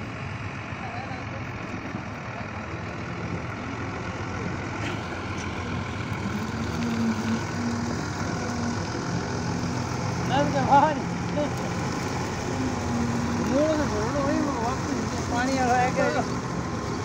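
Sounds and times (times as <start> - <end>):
combine harvester engine humming: 0.0 - 17.0
high held engine note: 0.0 - 17.0.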